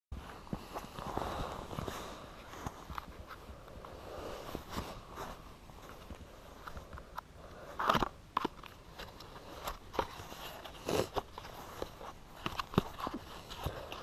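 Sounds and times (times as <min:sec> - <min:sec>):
cardboard crackling and scraping: 0:00.2 - 0:14.0.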